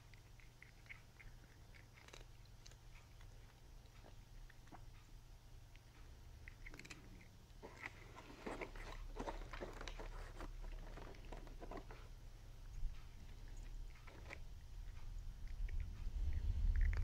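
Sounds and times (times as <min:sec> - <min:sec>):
kitten chewing crunchy treats: 0:00.0 - 0:17.0.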